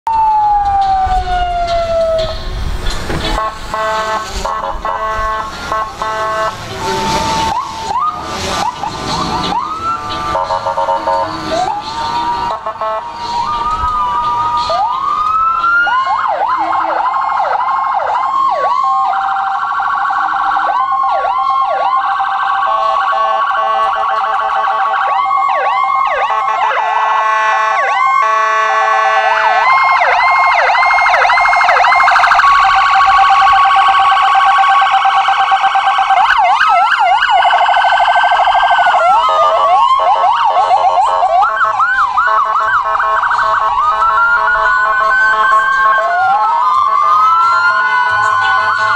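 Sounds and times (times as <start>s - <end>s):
police sirens wailing: 0.0s - 48.9s.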